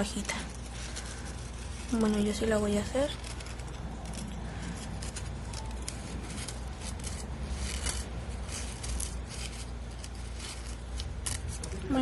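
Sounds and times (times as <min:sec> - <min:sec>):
scissors snipping paper: 0:00.0 - 0:12.0.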